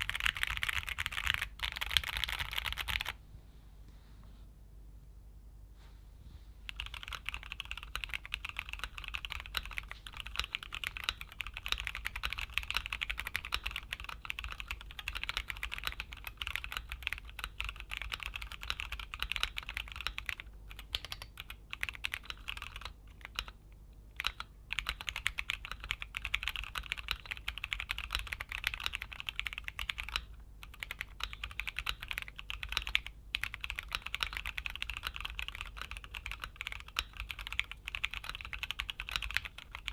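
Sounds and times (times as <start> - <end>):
mechanical keyboard typing: 0.0 - 3.2, 6.7 - 23.6, 24.2 - 39.9.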